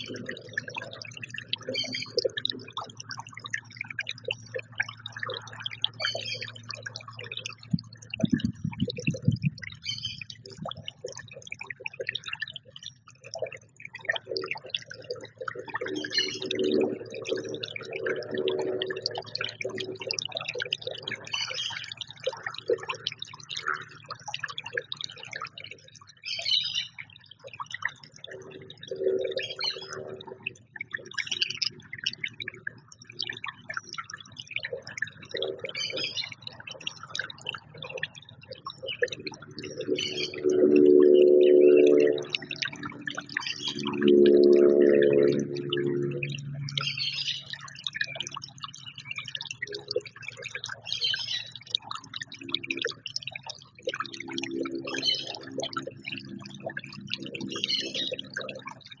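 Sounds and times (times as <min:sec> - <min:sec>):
songbirds chirping: 0:00.0 - 0:11.4, 0:12.1 - 0:23.9, 0:24.8 - 0:59.0.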